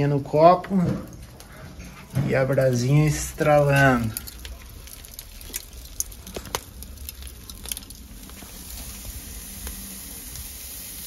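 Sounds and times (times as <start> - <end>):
charcoal embers crackling: 0.0 - 11.0
low steady hiss: 2.0 - 11.0.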